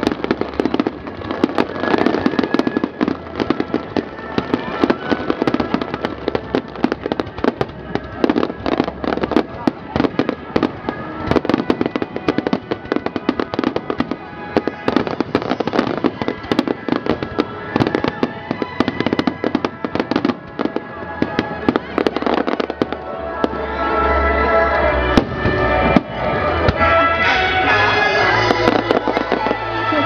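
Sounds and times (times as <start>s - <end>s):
fireworks banging and crackling: 0.0s - 30.0s.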